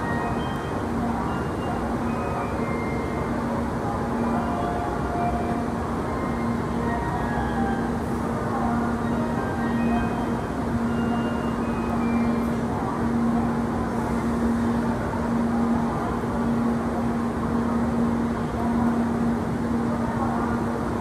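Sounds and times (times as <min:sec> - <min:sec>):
train equipment humming: 0:00.0 - 0:21.0.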